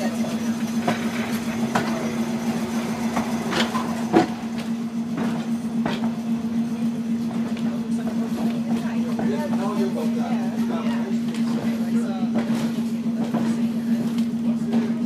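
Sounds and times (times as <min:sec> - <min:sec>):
streetcar humming: 0:00.0 - 0:15.0.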